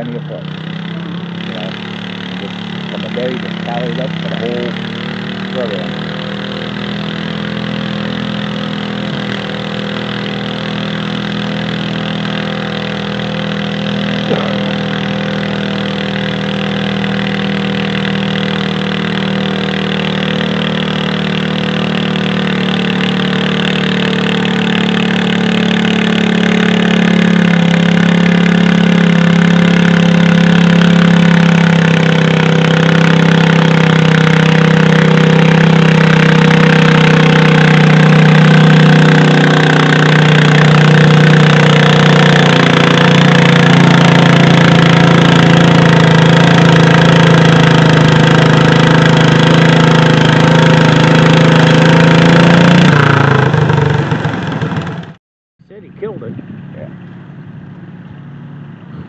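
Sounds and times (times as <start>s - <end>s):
tractor engine under load: 0.0s - 55.1s.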